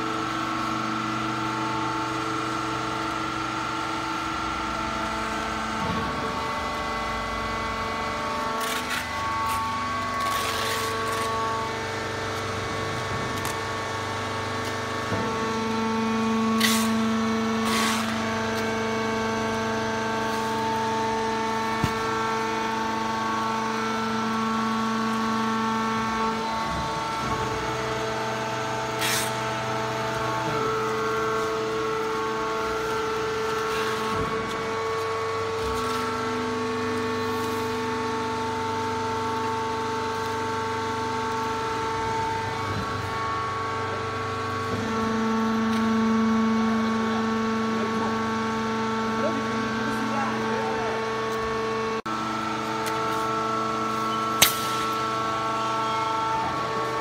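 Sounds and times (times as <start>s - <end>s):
baler machine hum: 0.0s - 57.0s.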